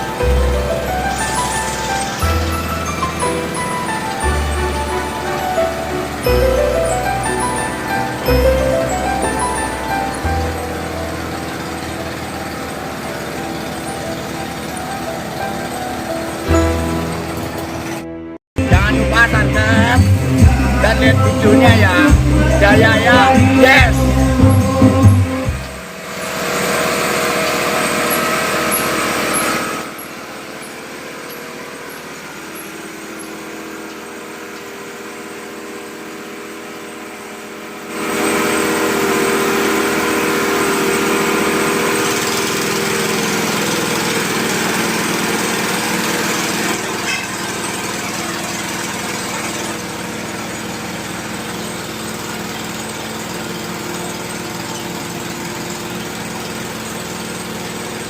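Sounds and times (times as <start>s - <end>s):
small petrol engine running: 0.0s - 58.0s.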